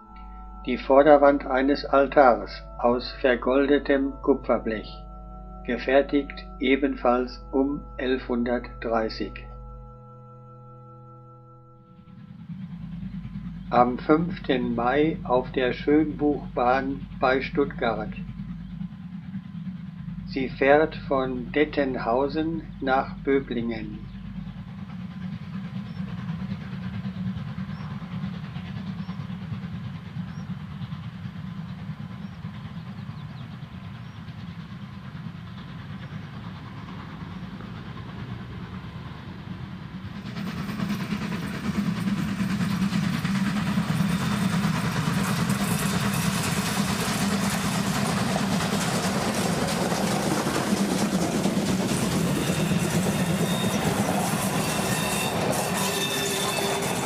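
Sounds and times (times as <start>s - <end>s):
steam train rumbling past: 0.0s - 57.0s.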